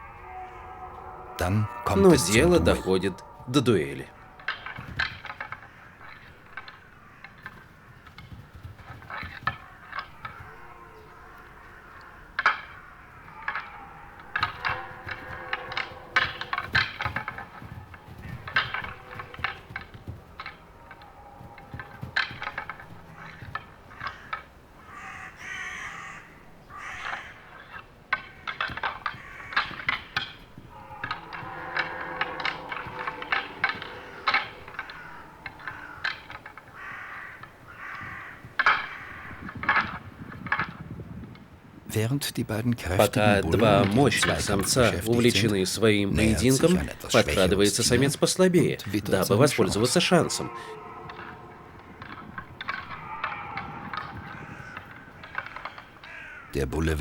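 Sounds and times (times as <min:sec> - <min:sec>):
antlers clashing: 0:00.0 - 0:57.0.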